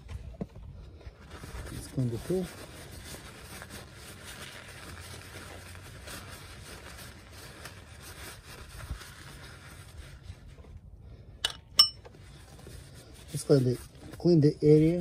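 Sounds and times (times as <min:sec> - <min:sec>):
paper towel rustling and rubbing: 0:01.1 - 0:10.8, 0:12.2 - 0:15.0.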